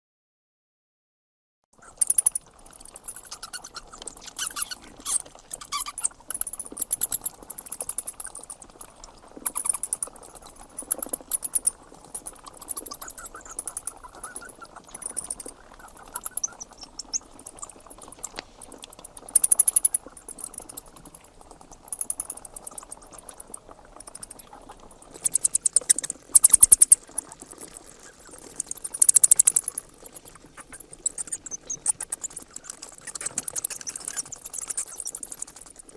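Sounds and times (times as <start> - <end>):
bats squeaking: 1.8 - 35.9.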